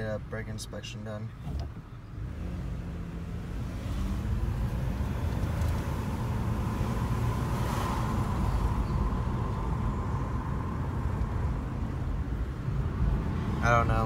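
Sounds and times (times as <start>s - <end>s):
road and wind rumble: 0.0s - 14.0s.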